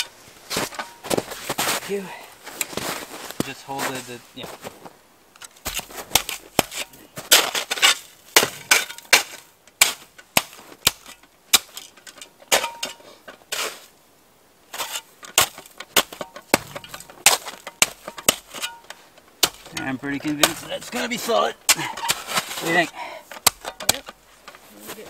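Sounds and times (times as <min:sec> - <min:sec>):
snow shovel crunching snow: 0:00.1 - 0:04.9, 0:05.6 - 0:11.0, 0:12.6 - 0:13.9, 0:14.7 - 0:23.0, 0:23.9 - 0:25.0.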